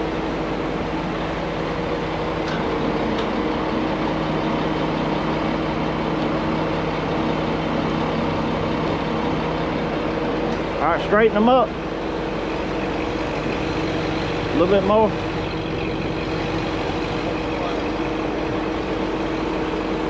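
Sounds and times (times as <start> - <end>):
truck engine running at low revs: 0.0 - 20.0.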